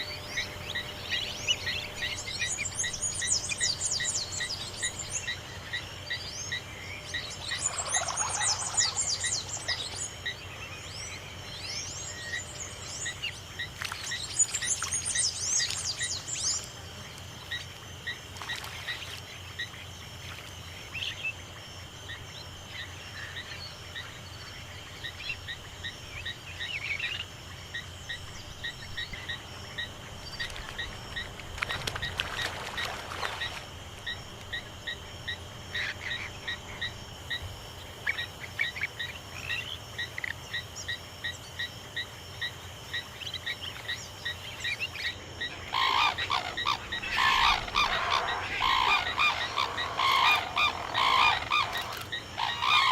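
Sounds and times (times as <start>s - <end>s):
insect buzz: 0.0s - 52.9s
songbirds twittering: 0.0s - 52.9s.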